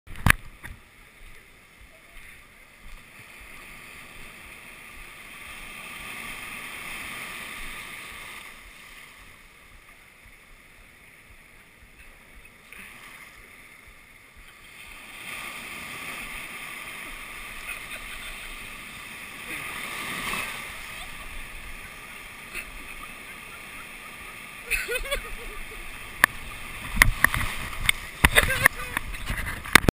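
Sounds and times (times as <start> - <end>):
surf washing over sand: 0.1 - 29.9.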